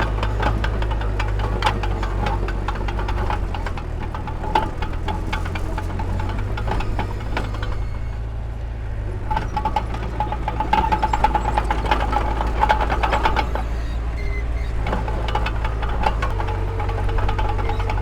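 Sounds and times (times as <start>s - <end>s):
metallic clanks and knocks: 0.0s - 8.2s, 9.2s - 18.0s
heavy machinery engine rumble: 0.0s - 18.0s.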